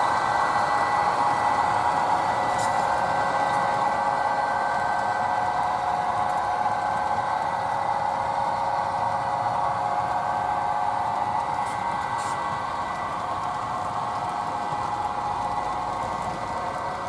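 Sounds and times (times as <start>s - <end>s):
model trains whirring: 0.0s - 17.0s.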